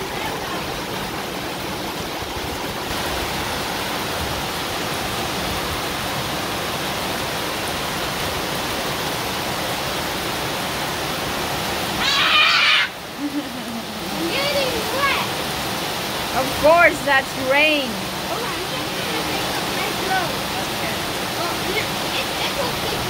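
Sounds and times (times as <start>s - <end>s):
heavy rain on wet concrete: 0.0s - 23.0s.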